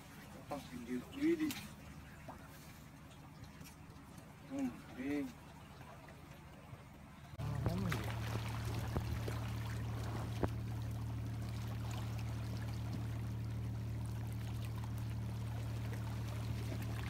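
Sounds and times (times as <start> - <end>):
seawater lapping among rocks: 0.0 - 17.0
steady low hum: 0.0 - 17.0.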